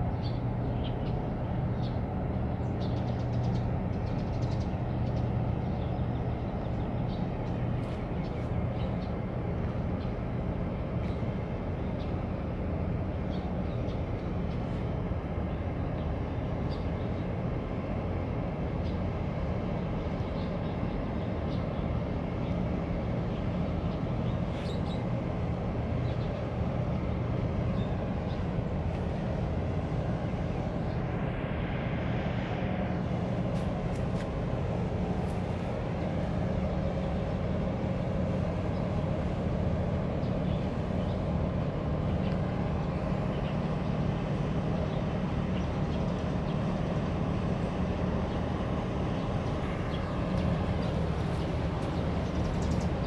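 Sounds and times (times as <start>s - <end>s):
ship engines droning: 0.0s - 53.0s.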